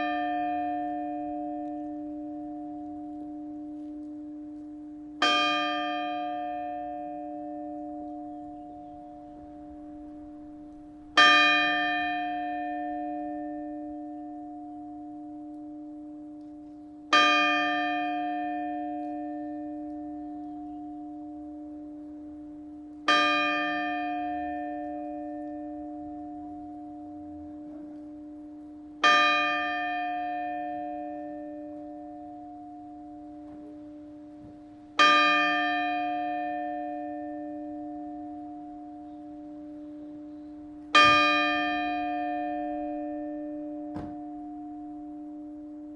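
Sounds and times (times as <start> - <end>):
church bell tolling: 0.0 - 45.9.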